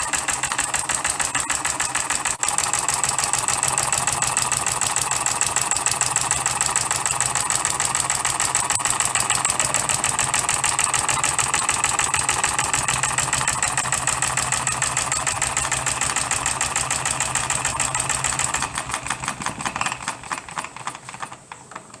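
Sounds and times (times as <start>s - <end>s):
model diesel engine running: 0.0s - 22.0s.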